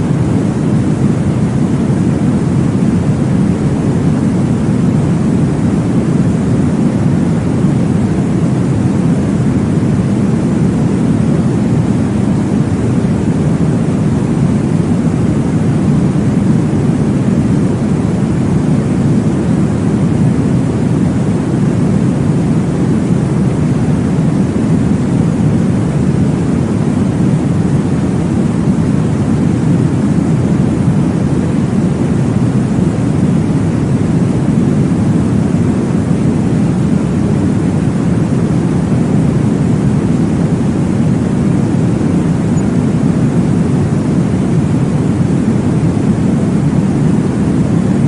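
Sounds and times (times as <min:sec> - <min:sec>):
deep whooshing white noise: 0:00.0 - 0:48.0.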